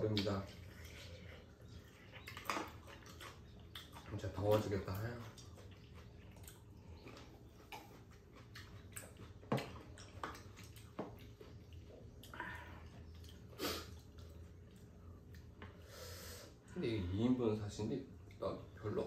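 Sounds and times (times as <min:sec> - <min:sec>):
chewing: 0:00.0 - 0:15.8.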